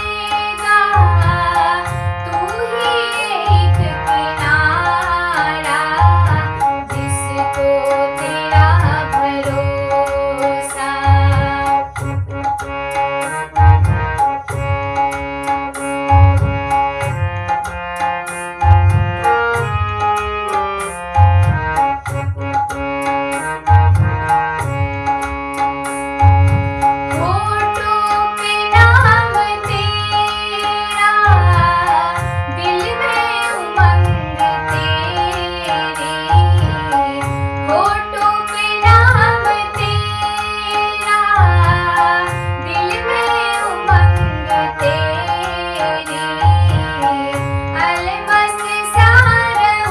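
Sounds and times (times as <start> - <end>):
keyboard chords: 0.0 - 49.9
sustained melodic instruments: 0.0 - 49.9
tabla rhythm: 0.0 - 49.9.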